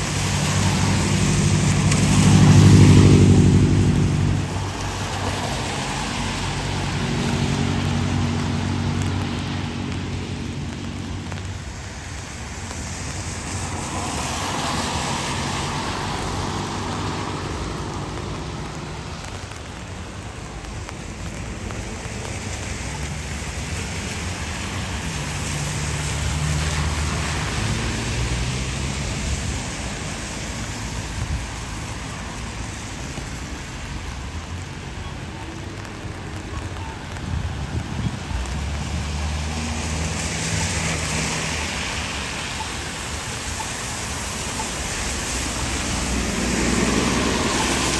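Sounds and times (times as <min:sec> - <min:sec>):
steady rain: 0:00.0 - 0:47.9
traffic on wet streets: 0:00.0 - 0:47.9.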